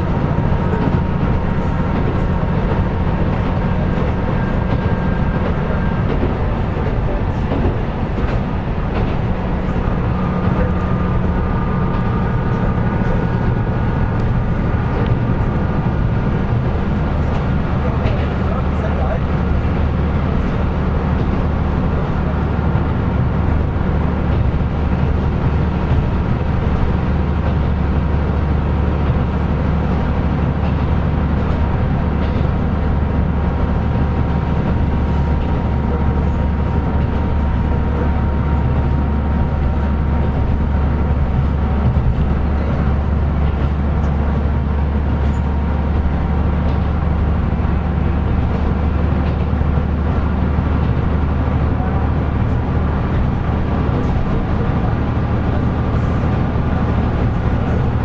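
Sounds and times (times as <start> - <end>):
diesel railcar running: 0.0 - 58.0.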